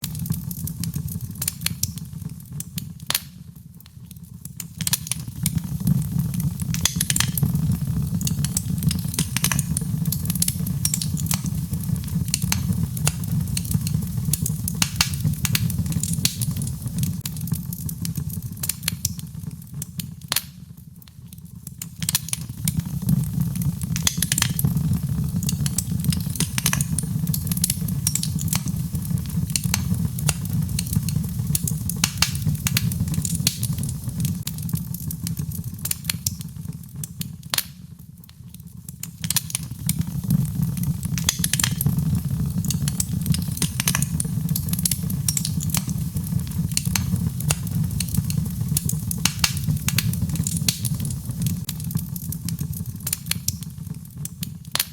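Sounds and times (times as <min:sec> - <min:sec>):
low rumble of flames: 0:00.0 - 0:54.8
fire crackling and popping: 0:00.0 - 0:54.9.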